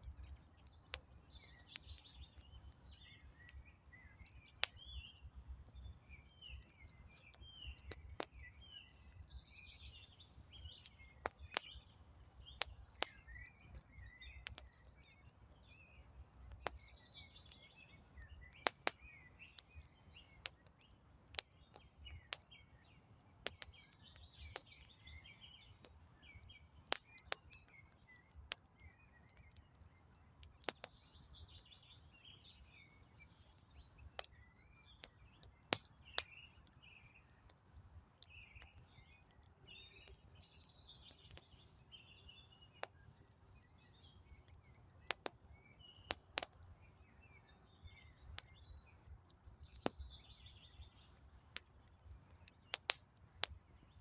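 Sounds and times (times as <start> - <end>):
campfire crackling: 0.0 - 54.0
small birds chirping: 0.0 - 54.0.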